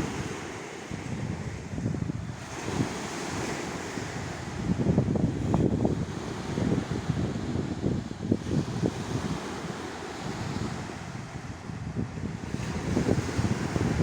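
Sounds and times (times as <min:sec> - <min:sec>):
sea surf: 0:00.0 - 0:14.0
wind buffeting microphone: 0:00.0 - 0:14.0.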